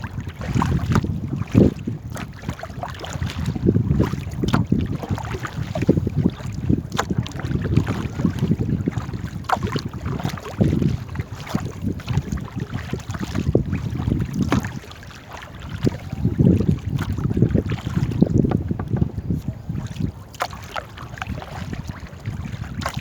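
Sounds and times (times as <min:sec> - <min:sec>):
paddles splashing in water: 0:00.0 - 0:23.0
wind buffeting microphone: 0:00.0 - 0:23.0.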